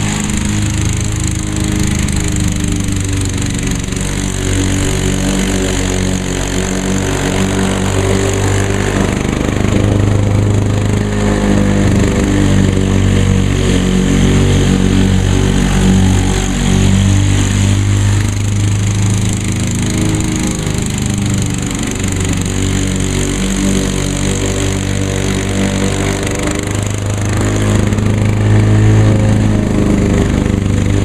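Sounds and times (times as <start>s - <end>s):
lawn mower cutting grass: 0.0s - 31.0s.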